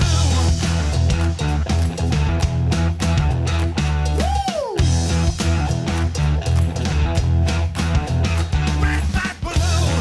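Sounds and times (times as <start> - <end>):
rock music: 0.0 - 10.0
steady drum beat: 0.0 - 10.0.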